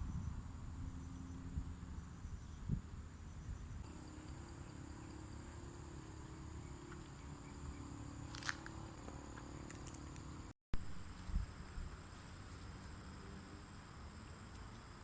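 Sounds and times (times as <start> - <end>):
faint high insect drone: 0.0 - 15.0.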